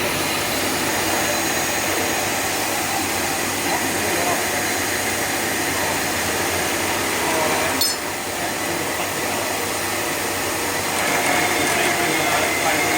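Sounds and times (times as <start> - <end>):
grinding machine hissing: 0.0 - 12.9.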